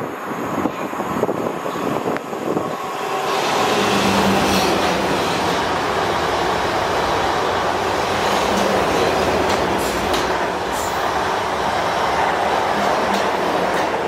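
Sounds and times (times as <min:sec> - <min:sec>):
passenger train passing at speed: 0:00.0 - 0:14.0.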